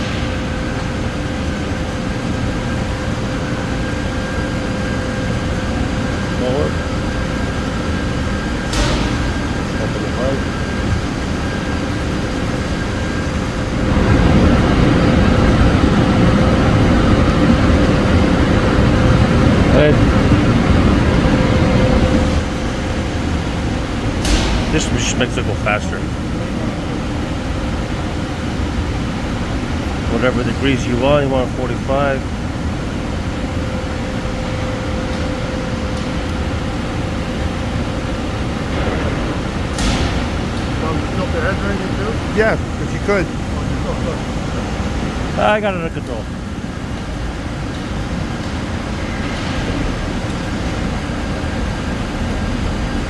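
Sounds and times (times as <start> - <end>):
faint constant whine: 0.0 - 53.0
band saw machine hum: 4.6 - 53.0.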